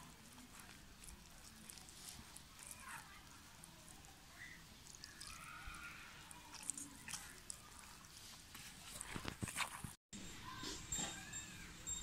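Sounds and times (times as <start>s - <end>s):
batter squelching by hand: 0.0s - 10.0s.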